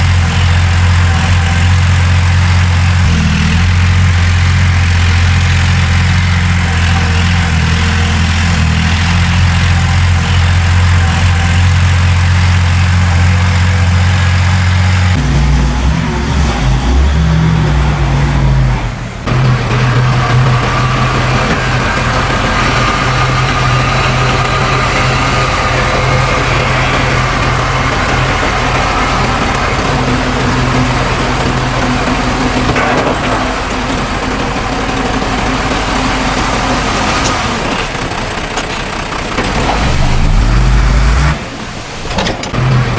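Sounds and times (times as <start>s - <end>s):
heavy diesel engines droning: 0.0s - 42.9s.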